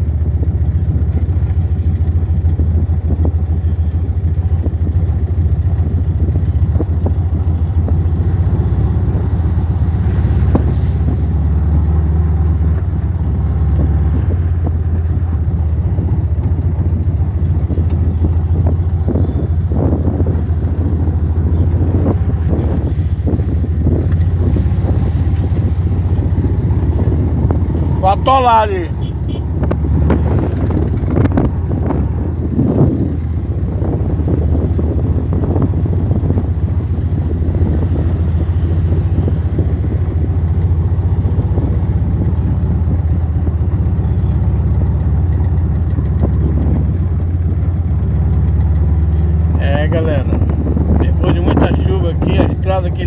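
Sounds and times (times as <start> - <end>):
vehicle engine running at low revs: 0.0 - 53.0.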